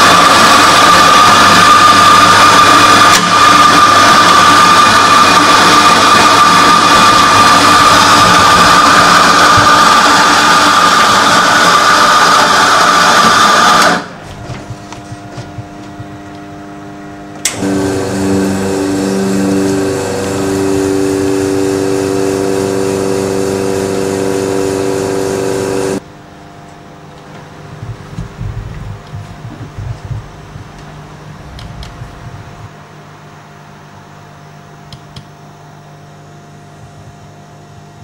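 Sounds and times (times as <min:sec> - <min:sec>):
loud whirring machine: 0:00.0 - 0:26.3, 0:27.0 - 0:38.0
espresso machine pump humming: 0:00.0 - 0:38.0.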